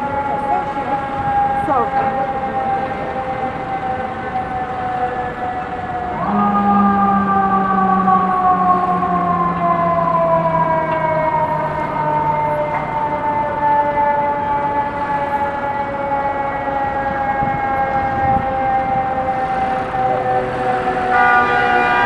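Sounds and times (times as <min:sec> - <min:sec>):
fire engine siren winding down: 0:00.0 - 0:22.0.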